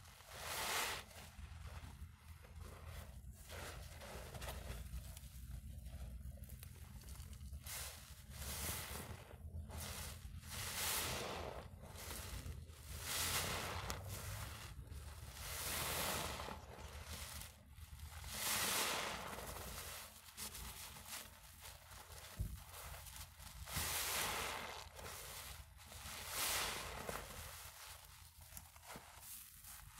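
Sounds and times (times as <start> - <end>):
foam sponge squelching: 0.0 - 29.9.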